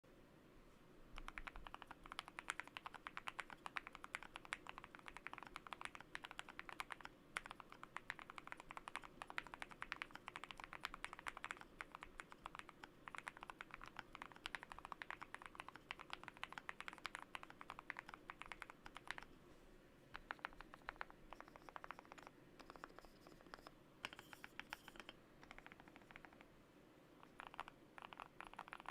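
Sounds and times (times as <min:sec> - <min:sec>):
mechanical keyboard typing: 0:01.2 - 0:19.3, 0:20.1 - 0:26.5, 0:27.2 - 0:28.9.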